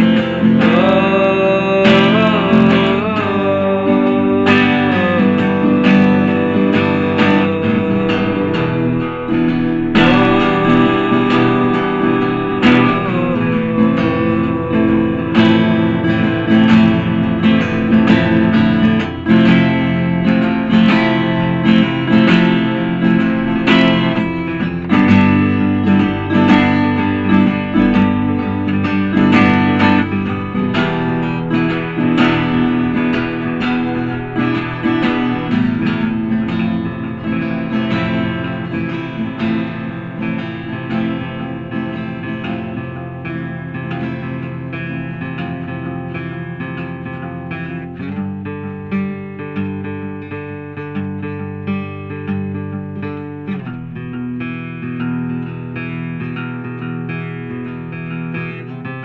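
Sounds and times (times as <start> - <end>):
strummed guitar music: 0.0 - 59.0.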